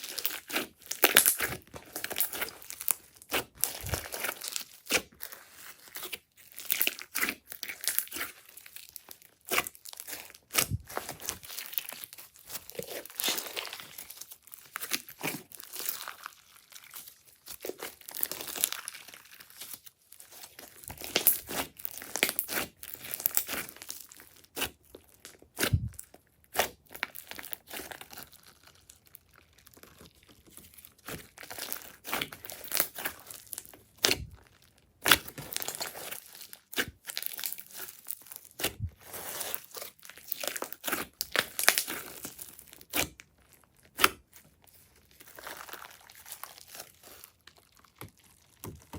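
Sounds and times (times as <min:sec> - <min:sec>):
slime squeezed and stretched: 0:00.0 - 0:48.9.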